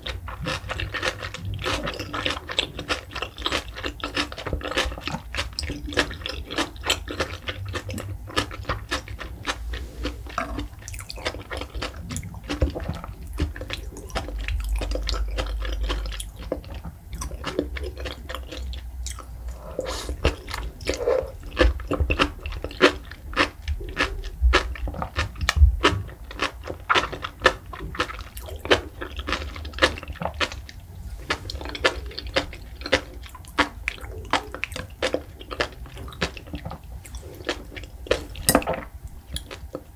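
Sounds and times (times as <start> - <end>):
person chewing with wet pops: 0.0 - 39.9.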